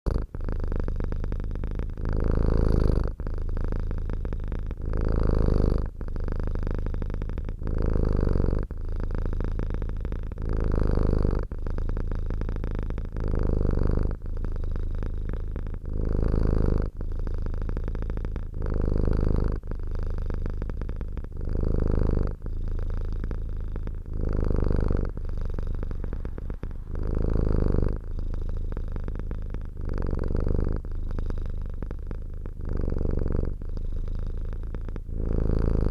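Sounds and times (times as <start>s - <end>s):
cat purring: 0.0s - 35.9s.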